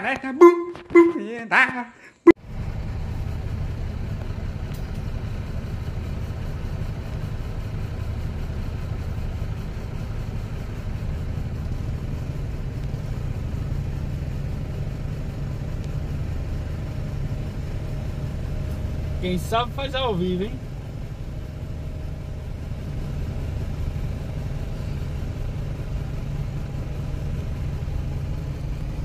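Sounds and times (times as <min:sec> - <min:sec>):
car engine and road rumble: 0:02.2 - 0:29.0.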